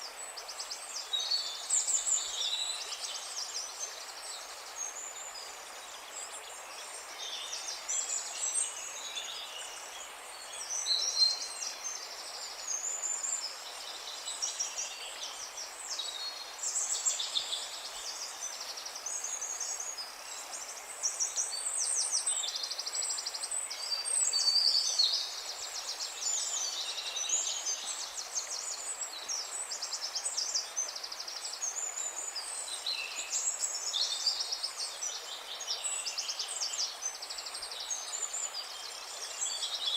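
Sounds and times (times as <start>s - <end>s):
low outdoor hiss: 0.0s - 39.9s.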